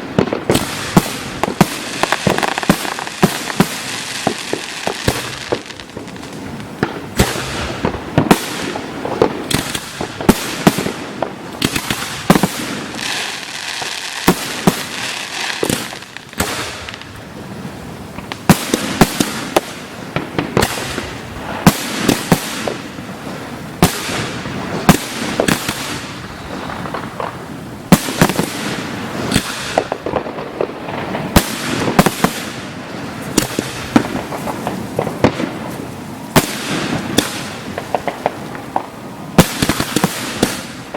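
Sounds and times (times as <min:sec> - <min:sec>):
fireworks bangs: 0:00.0 - 0:40.9
fireworks crackle: 0:00.0 - 0:40.9.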